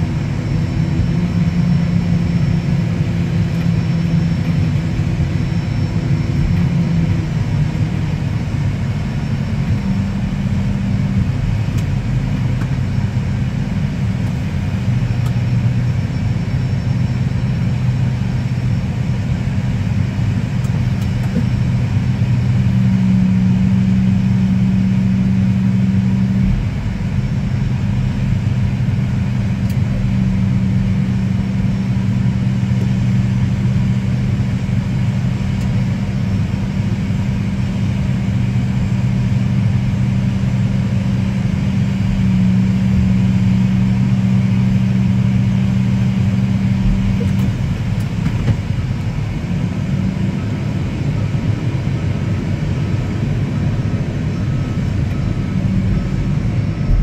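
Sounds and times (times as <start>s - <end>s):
tug engine low drone: 0.0s - 57.0s.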